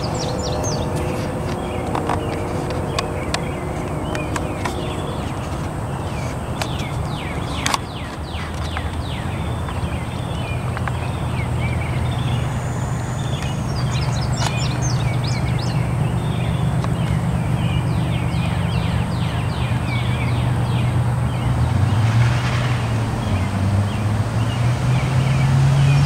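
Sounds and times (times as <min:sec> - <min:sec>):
distant diesel locomotives droning: 0:00.0 - 0:26.0
songbirds chirping: 0:00.0 - 0:26.0.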